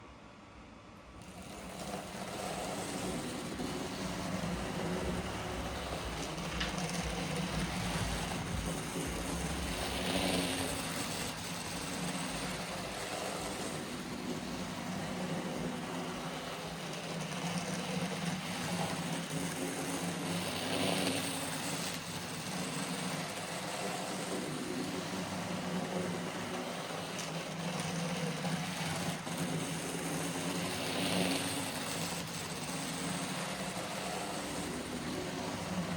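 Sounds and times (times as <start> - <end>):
model train wheel noise: 1.1 - 35.9
model train motor whir: 1.2 - 35.9.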